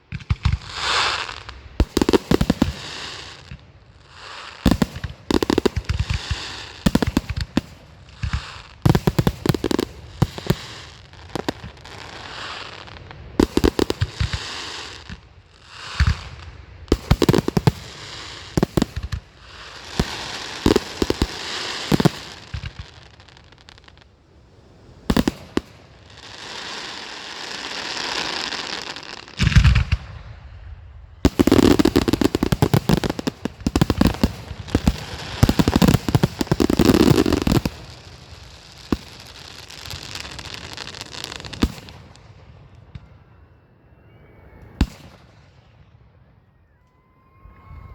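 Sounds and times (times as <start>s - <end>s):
firework crackling pops: 0.0s - 24.1s, 24.8s - 30.6s, 31.2s - 43.1s, 44.8s - 45.9s
firework hisses: 0.0s - 30.1s, 31.2s - 42.0s
firework bangs: 0.0s - 43.3s.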